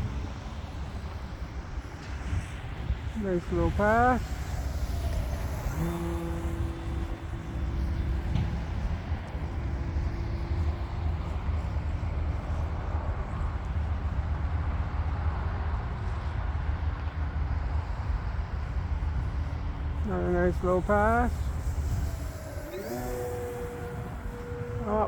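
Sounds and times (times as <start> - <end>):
low wind rush: 0.0 - 25.0
model airplane engine: 0.0 - 25.0.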